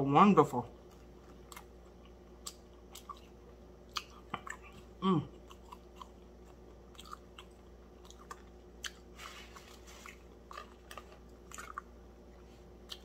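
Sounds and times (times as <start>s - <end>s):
crunchy chewing: 0.7s - 13.0s.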